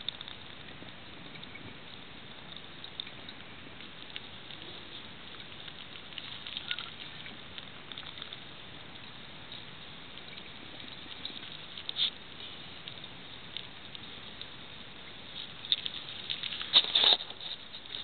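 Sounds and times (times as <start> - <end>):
faint crackling: 0.0 - 18.0.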